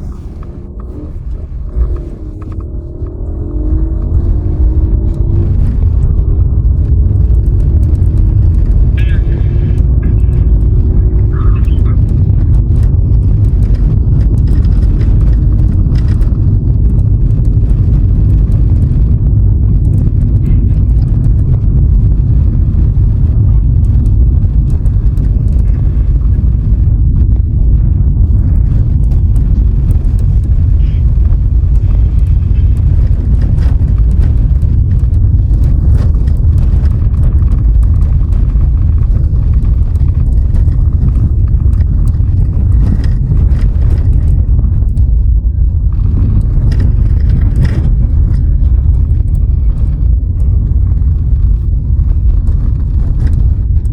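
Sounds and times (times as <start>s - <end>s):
faint ticks and rattles: 0.0s - 53.9s
road and wind noise: 0.0s - 53.9s.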